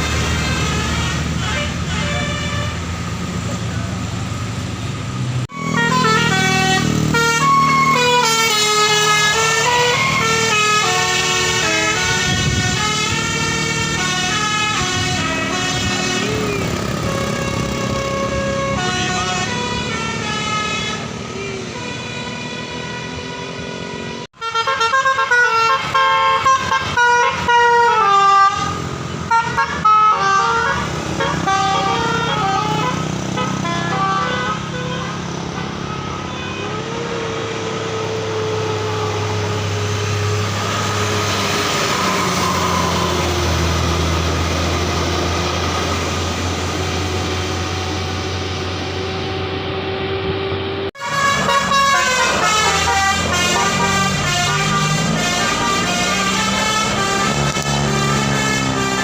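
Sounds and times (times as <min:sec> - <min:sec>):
vehicle engine rumble: 0:00.0 - 0:59.0
musical air horn playing tune: 0:00.1 - 0:03.0, 0:05.5 - 0:49.8, 0:50.9 - 0:59.0.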